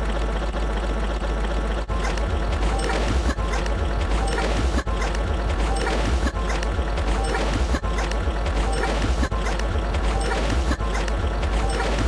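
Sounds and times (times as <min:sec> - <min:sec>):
noisy sound effects: 0:01.9 - 0:12.0.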